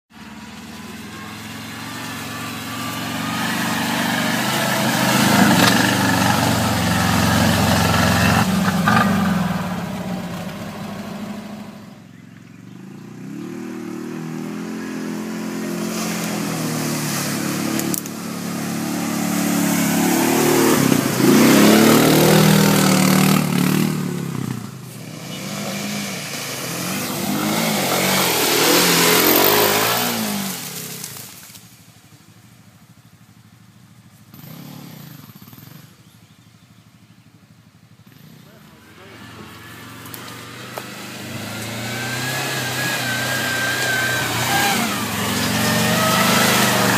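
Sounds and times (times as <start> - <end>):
off-road vehicle engine under load: 0.0 - 46.9
dirt bike engine revving: 0.2 - 31.8, 34.2 - 36.8, 38.0 - 46.9.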